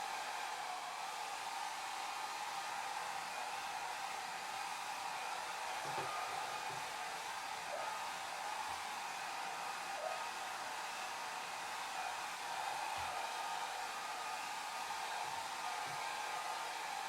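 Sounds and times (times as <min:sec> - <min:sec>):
hair dryer running: 0:00.0 - 0:17.0.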